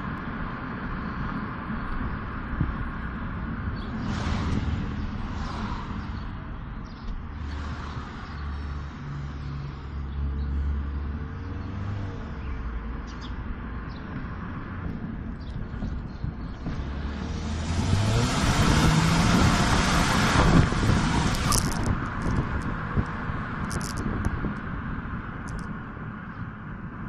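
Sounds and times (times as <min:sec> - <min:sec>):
car engine running at low revs: 0:00.0 - 0:27.0.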